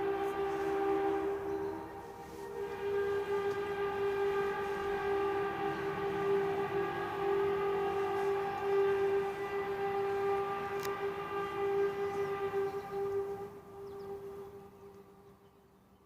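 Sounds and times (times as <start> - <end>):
droning tone with overtones: 0.0 - 15.6.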